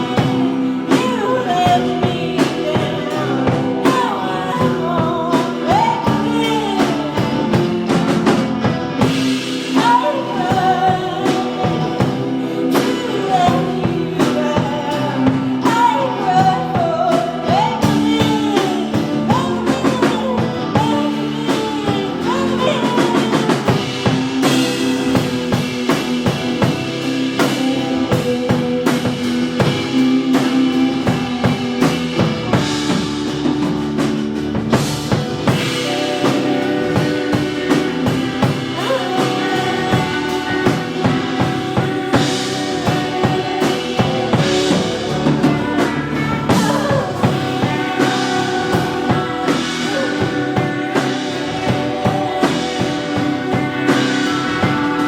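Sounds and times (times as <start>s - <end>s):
bass and guitars: 0.0s - 55.0s
drum kit beating: 0.0s - 55.0s
person singing: 0.0s - 55.0s.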